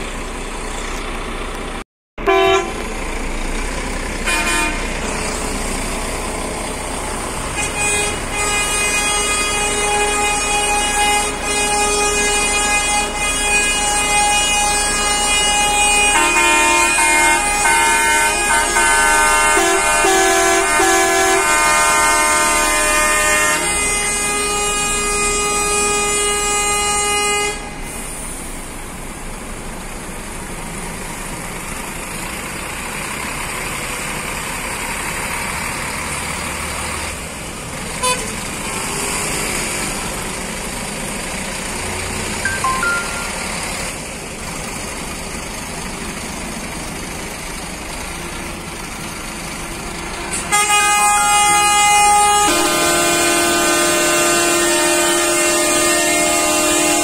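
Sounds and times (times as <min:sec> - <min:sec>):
bus horns honking: 0:00.0 - 0:44.6, 0:45.6 - 0:57.0.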